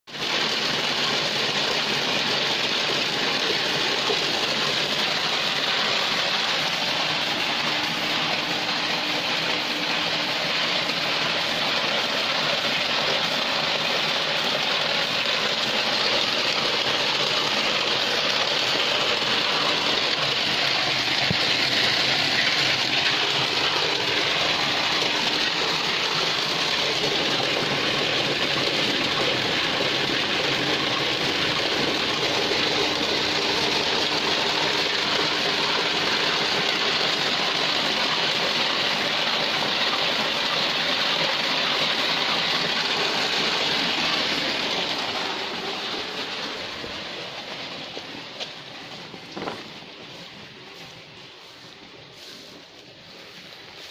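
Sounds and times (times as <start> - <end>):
water and rice splashing into tub: 0.1 - 53.9
machine motor humming: 1.5 - 40.3, 41.2 - 50.9.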